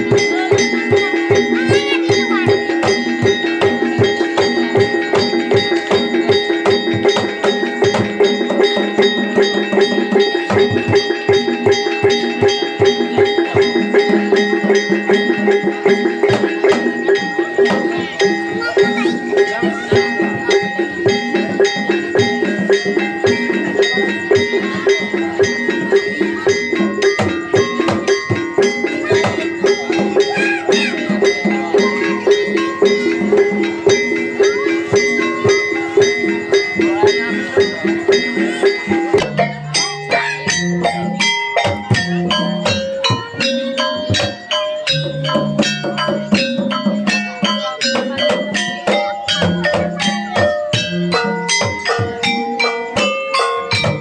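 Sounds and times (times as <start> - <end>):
drum strokes: 0.0 - 54.0
gongs and metallophones ringing: 0.0 - 54.0.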